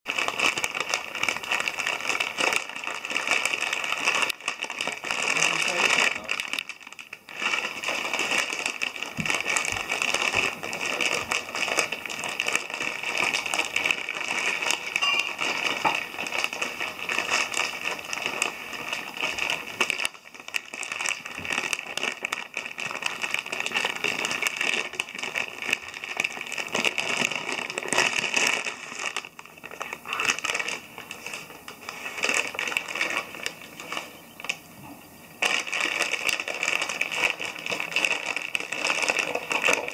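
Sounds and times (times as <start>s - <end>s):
snack bag crinkling: 0.1s - 39.9s.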